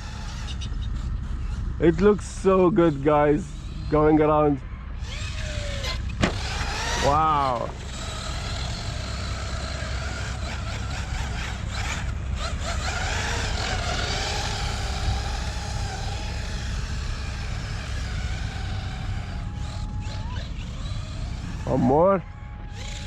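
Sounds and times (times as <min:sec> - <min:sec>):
steady low rumble: 0:00.0 - 0:22.4
rc truck electric motor whining: 0:00.0 - 0:23.0.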